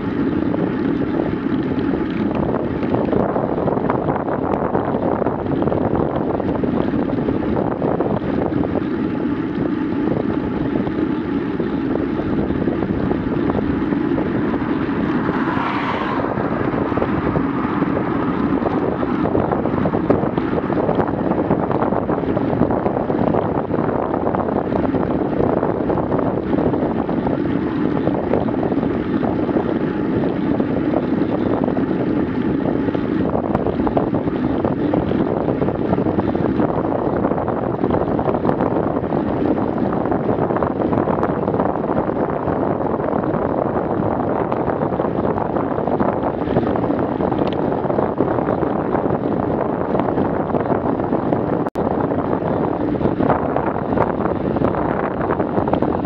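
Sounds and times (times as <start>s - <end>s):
tyre noise on asphalt: 0.0s - 56.0s
wind rushing over microphone: 0.0s - 56.0s.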